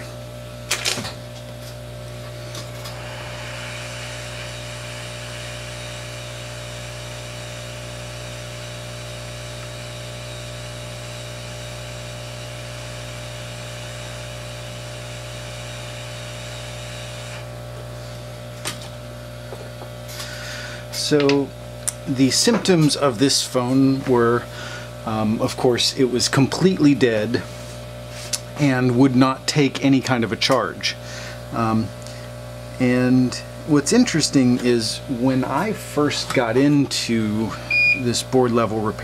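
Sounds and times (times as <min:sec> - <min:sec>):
low mains hum: 0:00.0 - 0:39.0
hot air blower hissing: 0:02.1 - 0:28.9, 0:30.8 - 0:39.0.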